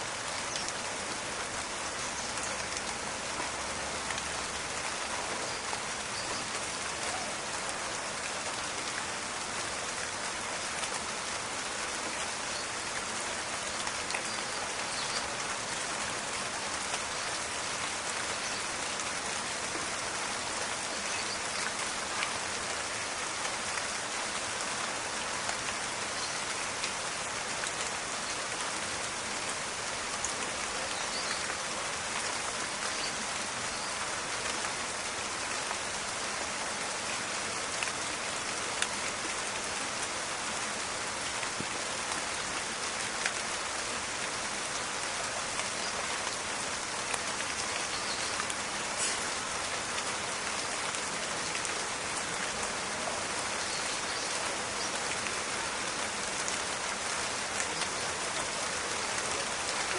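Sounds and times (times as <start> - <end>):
crackling raindrops: 0.0 - 59.9
steady rain in forest: 0.0 - 59.9.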